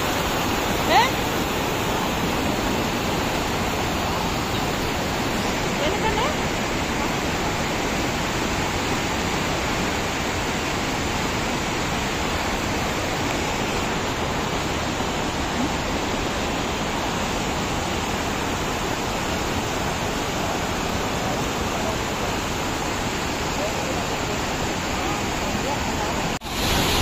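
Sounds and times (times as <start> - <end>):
river rapids rushing: 0.0 - 27.0.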